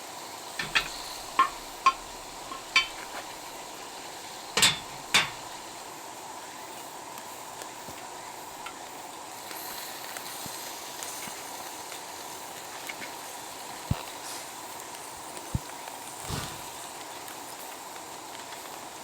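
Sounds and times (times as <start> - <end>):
food sizzling over campfire: 0.0 - 19.0.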